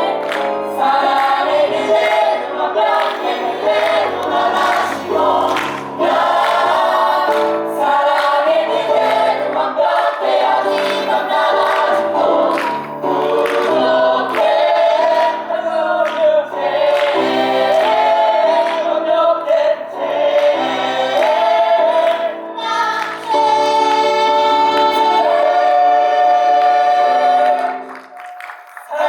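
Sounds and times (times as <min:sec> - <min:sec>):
voices singing together: 0:00.0 - 0:28.1, 0:28.8 - 0:29.0
instrumental accompaniment: 0:00.0 - 0:28.2.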